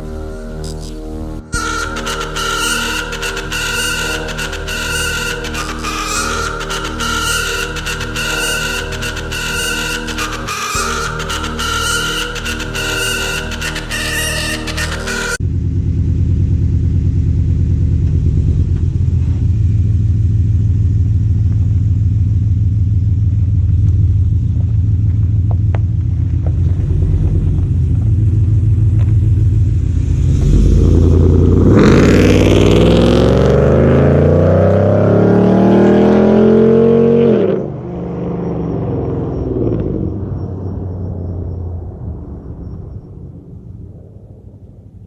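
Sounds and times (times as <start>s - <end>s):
truck exhaust rumble: 0.0s - 45.0s.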